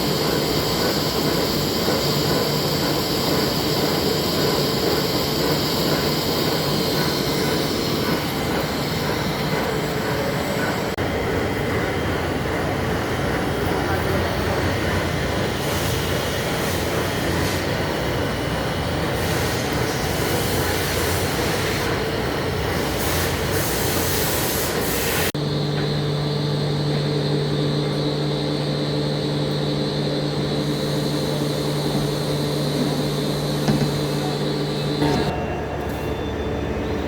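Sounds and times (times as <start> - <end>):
machine drone with low hum: 0.0 - 23.5, 25.3 - 37.0.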